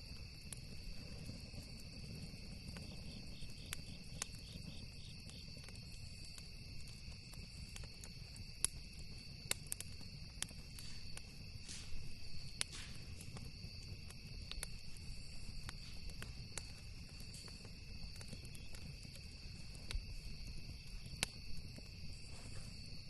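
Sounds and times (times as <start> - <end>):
campfire wood crackling: 0.0 - 23.0
crickets trilling: 0.0 - 23.0.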